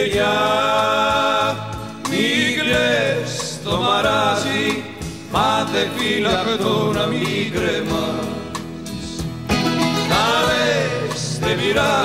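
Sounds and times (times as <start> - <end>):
song with melody over steady beat: 0.0 - 12.0.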